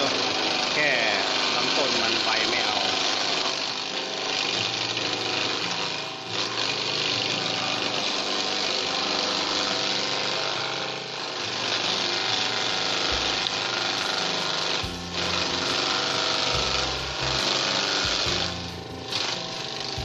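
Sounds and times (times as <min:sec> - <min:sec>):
chaff cutter chopping grass: 0:00.0 - 0:20.0.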